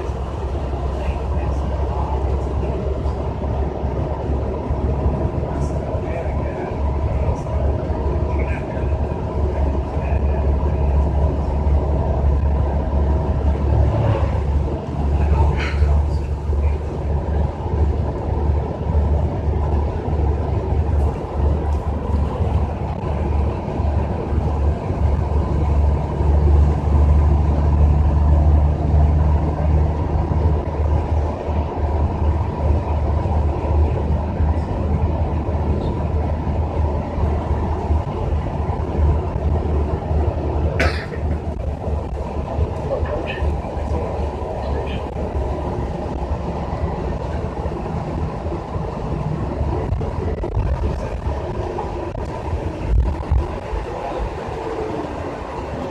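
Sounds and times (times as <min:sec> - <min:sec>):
bus engine and road rumble: 0:00.0 - 0:55.9.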